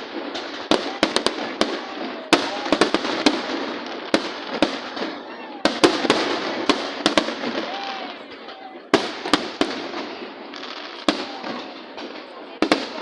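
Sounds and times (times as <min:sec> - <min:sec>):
crowd noise: 0:00.0 - 0:13.0
fireworks bangs: 0:00.0 - 0:13.0.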